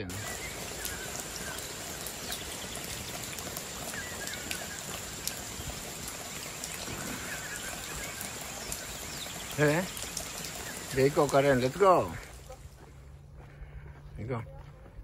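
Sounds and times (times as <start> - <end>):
steady hiss: 0.0 - 12.4
faint bird chirps: 0.0 - 12.6.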